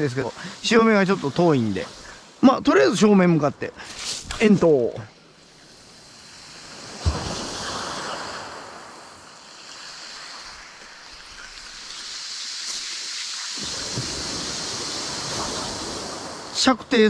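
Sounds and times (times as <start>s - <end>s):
waves washing on shore: 0.0s - 17.0s.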